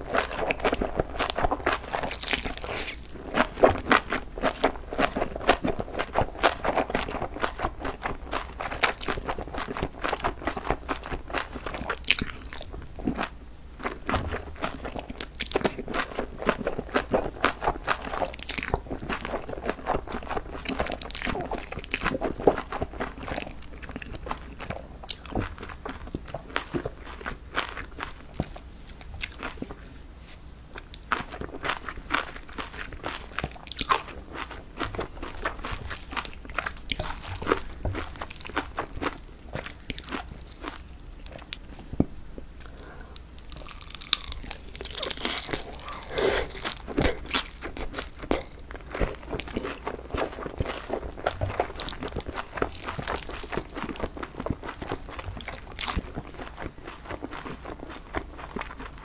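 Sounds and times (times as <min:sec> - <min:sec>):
wet chewing: 0:00.0 - 0:29.7, 0:30.8 - 0:59.0
crunching food: 0:00.0 - 0:29.8, 0:30.7 - 0:59.0.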